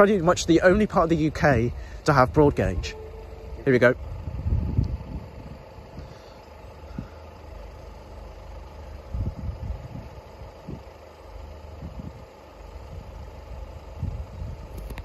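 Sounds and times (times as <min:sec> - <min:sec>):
wind buffeting microphone: 0:00.0 - 0:07.2, 0:09.0 - 0:11.0, 0:11.7 - 0:15.0
low engine-like rumble: 0:00.0 - 0:15.0.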